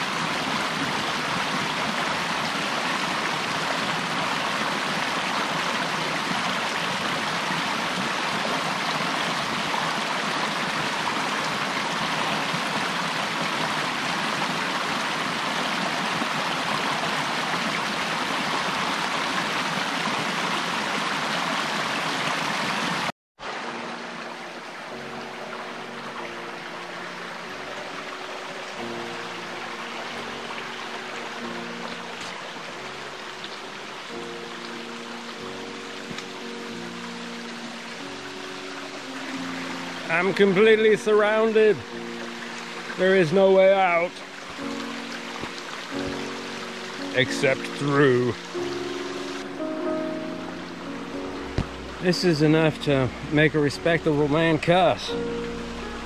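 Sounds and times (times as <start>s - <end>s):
gentle background music: 0.0s - 21.0s, 23.4s - 56.0s
creek rushing over stones: 0.0s - 56.0s.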